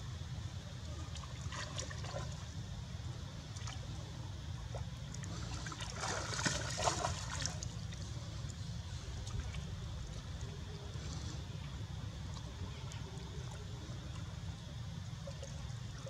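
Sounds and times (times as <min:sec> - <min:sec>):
steady low rumble: 0:00.0 - 0:16.0
water splashing and trickling: 0:00.9 - 0:02.6, 0:04.7 - 0:16.0.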